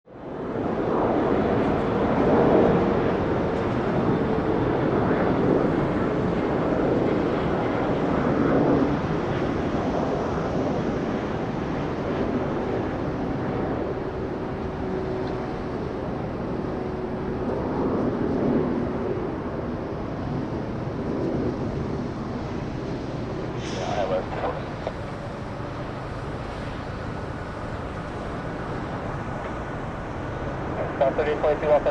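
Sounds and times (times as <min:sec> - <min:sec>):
jet engines roaring: 0:00.1 - 0:31.9.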